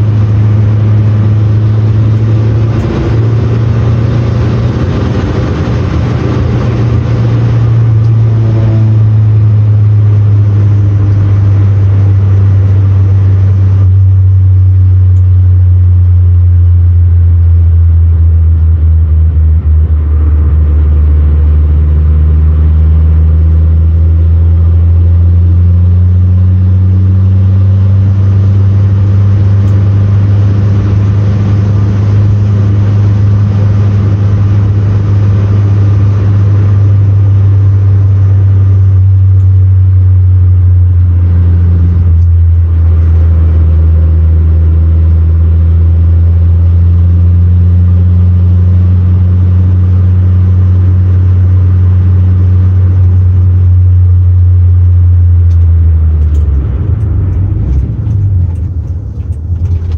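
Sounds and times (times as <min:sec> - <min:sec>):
car engine drone in cabin: 0:00.0 - 0:59.9.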